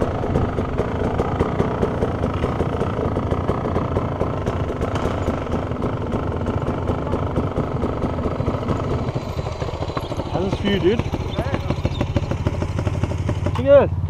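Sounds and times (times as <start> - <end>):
dirt bike engine idling: 0.0 - 14.0
dirt bikes riding up: 0.0 - 14.0.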